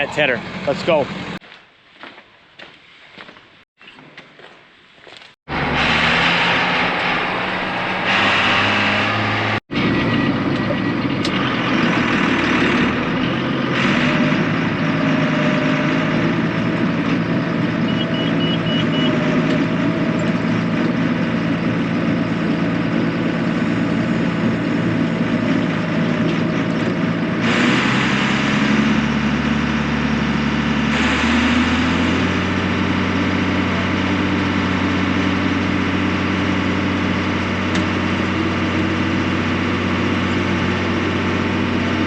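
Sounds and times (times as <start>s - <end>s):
vehicle engine running: 0.0s - 1.4s, 5.5s - 42.0s.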